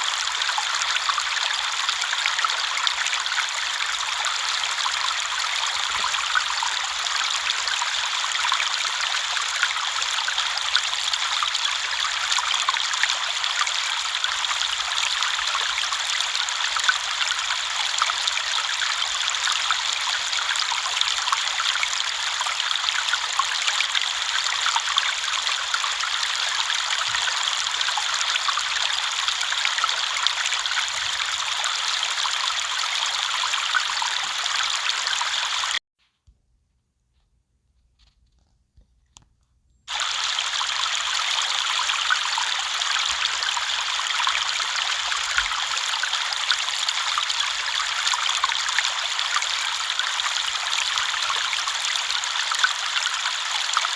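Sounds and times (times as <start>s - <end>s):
river water flowing over stones: 0.0s - 35.8s, 39.9s - 53.9s.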